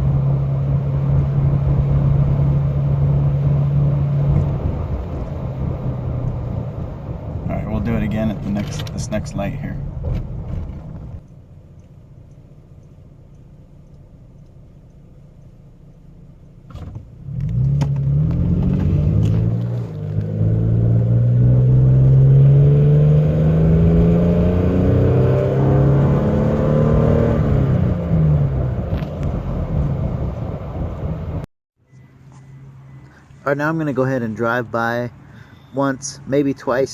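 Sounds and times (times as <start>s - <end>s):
truck engine accelerating: 0.0s - 34.2s.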